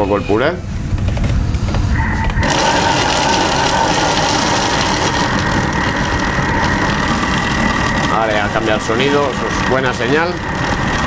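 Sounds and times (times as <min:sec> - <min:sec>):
blender motor whining: 0:02.0 - 0:11.0.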